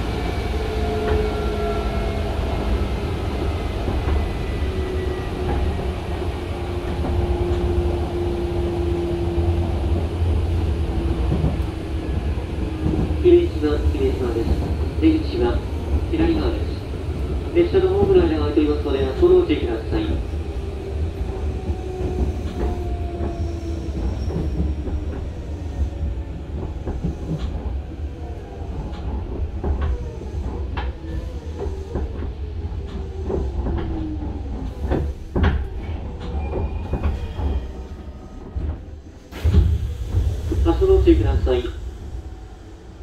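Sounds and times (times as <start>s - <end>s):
low train rumble: 0.0s - 43.0s.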